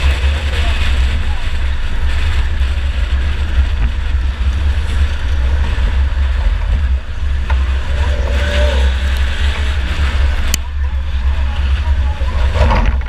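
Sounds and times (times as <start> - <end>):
race car engine rumble: 0.0 - 13.0
wind buffeting: 0.0 - 13.0.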